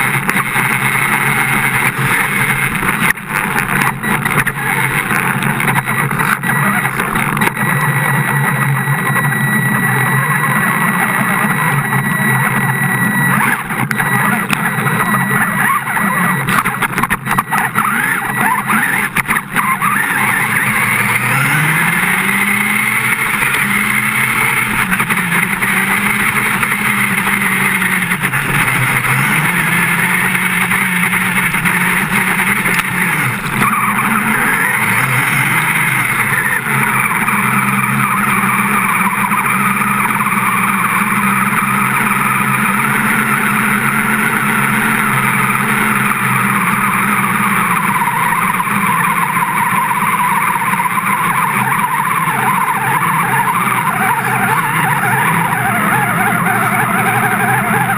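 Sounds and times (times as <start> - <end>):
rc car motor whining: 0.0 - 57.9.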